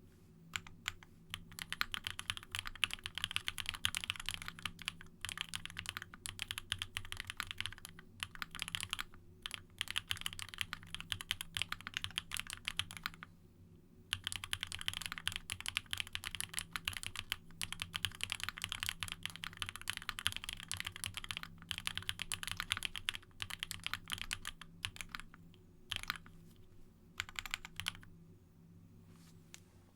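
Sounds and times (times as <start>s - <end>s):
fast typing on mechanical keyboard: 0.6s - 13.3s, 14.1s - 26.3s, 27.2s - 28.1s.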